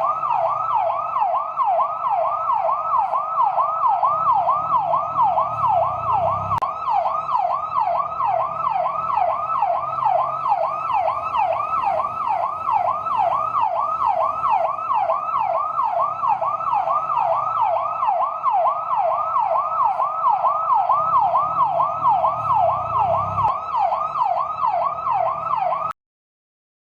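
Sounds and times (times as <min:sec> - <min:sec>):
fire truck siren yelping: 0:00.0 - 0:26.0.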